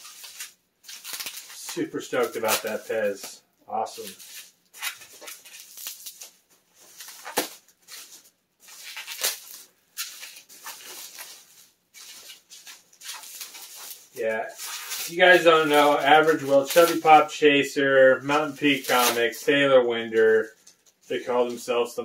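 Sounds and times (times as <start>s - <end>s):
bubble wrap snapping: 0.0s - 3.3s, 4.0s - 17.3s, 18.2s - 19.5s
bubble wrap crinkling: 0.0s - 21.2s.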